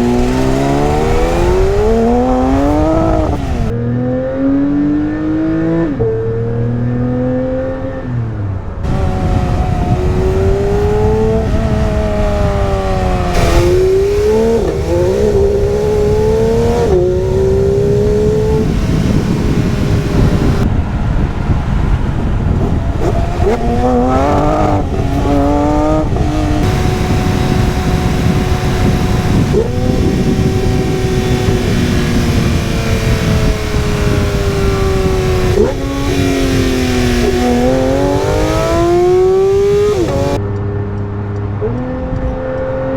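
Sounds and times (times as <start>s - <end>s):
steady rushing noise: 0.0s - 3.8s, 8.6s - 40.5s
sports car engine revving: 0.0s - 42.9s.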